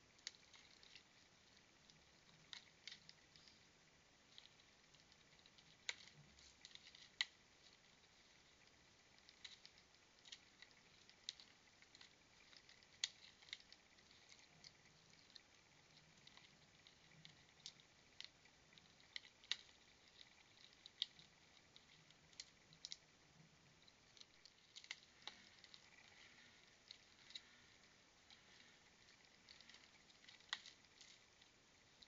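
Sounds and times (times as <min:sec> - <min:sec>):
faint clicks and taps: 0:00.0 - 0:32.0
feeder and seed rattling: 0:00.0 - 0:32.0.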